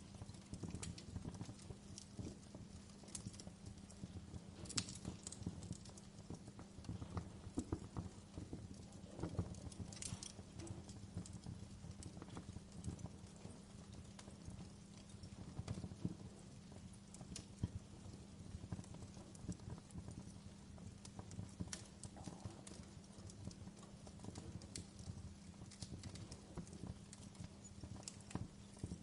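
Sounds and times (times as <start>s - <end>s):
low rumble of burning fire: 0.0s - 29.0s
wood fire crackling: 0.0s - 29.0s.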